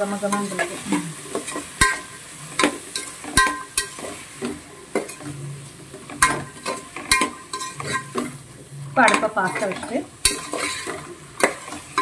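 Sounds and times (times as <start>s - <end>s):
vegetables sizzling in oil: 0.0s - 12.0s
spatula scraping a pot: 0.4s - 12.0s.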